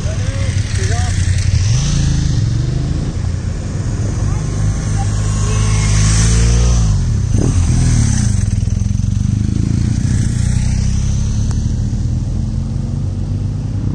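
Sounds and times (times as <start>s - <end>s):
motorcycles passing by: 0.0s - 13.9s.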